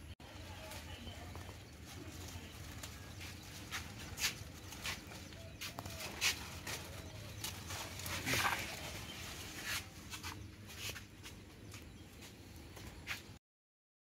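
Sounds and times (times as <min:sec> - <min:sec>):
leaves rustling and crackling: 0:00.2 - 0:12.3.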